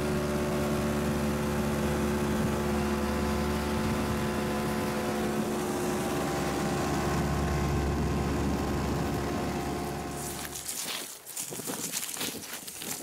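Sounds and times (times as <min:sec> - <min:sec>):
atv engine droning: 0:00.0 - 0:10.7.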